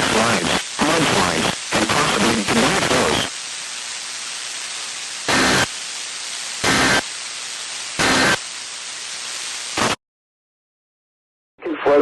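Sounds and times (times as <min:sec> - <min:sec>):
radio static hiss: 0:00.0 - 0:10.0, 0:11.6 - 0:12.0.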